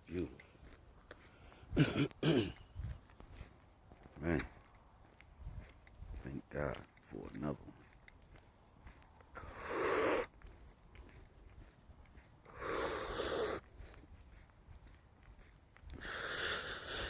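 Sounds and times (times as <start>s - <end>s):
heavy breaths on microphone: 0.0s - 1.9s, 2.5s - 6.3s, 7.6s - 17.0s.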